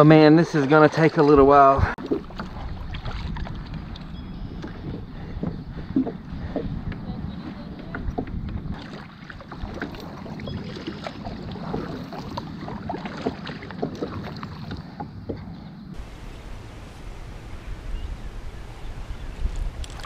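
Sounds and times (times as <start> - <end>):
kayak paddle splashing: 0.0 - 20.0
wind rumble on microphone: 1.4 - 13.3, 14.3 - 20.0.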